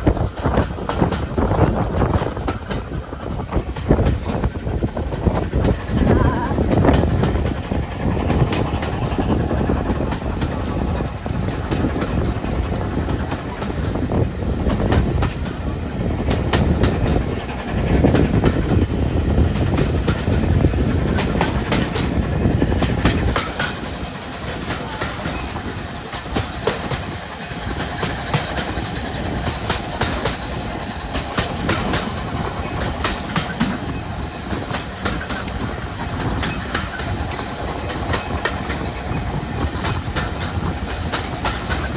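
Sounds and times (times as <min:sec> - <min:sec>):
train carriage rumbling: 0:00.0 - 0:41.9
wheels clicking over rail joints: 0:00.0 - 0:41.9.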